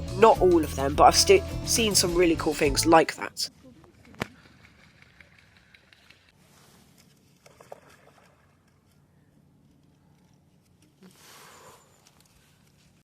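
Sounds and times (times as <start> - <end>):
faint outdoor hum: 0.0 - 13.0.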